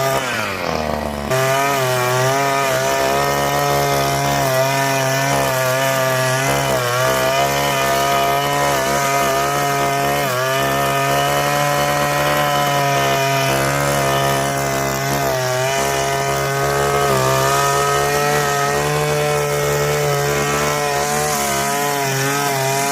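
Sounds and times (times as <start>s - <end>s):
garden power tool engine running: 0.0s - 22.9s.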